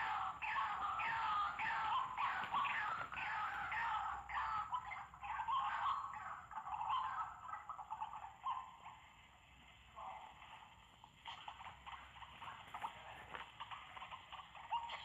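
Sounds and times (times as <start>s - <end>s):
bird croaking calls: 0.0s - 9.2s, 11.3s - 15.0s.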